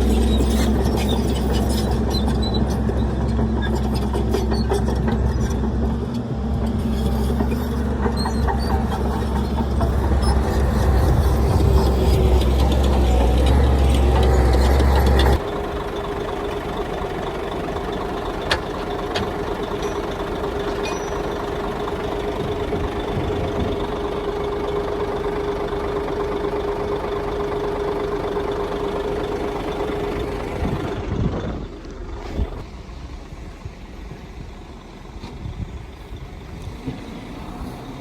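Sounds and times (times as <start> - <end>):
diesel earthmoving machinery running: 0.0 - 38.0.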